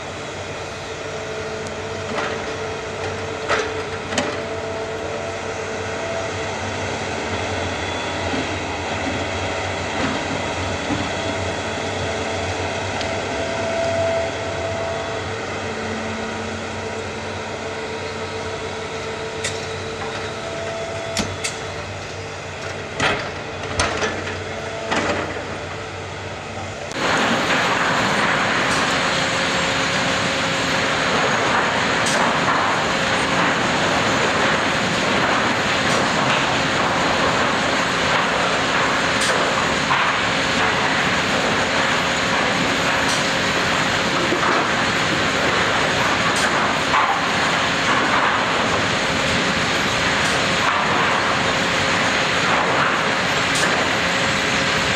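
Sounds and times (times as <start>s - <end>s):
diesel engine running: 0.0s - 54.9s
rushing engine noise: 0.0s - 54.9s.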